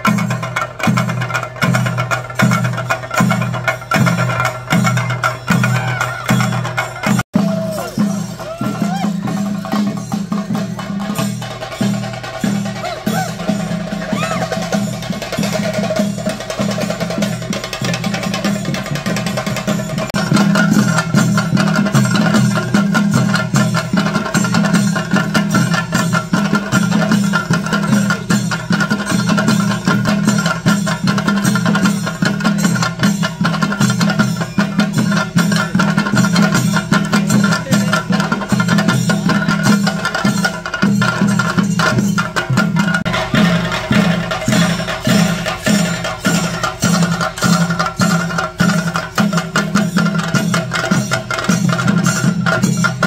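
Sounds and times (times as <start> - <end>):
fast drumming with sticks: 0.0 - 53.0.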